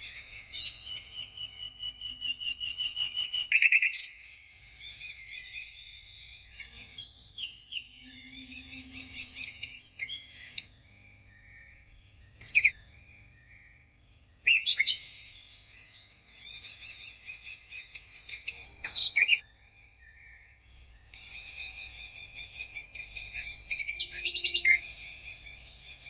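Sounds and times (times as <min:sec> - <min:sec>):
sharp bird calls: 0:00.0 - 0:26.0
songbirds chirping and singing: 0:00.0 - 0:26.0.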